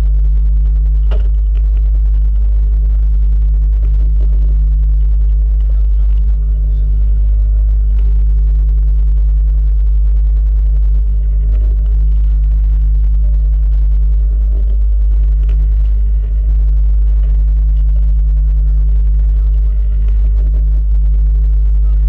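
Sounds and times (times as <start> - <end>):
droning hum tones: 0.0 - 22.0
low rumble: 0.0 - 22.0.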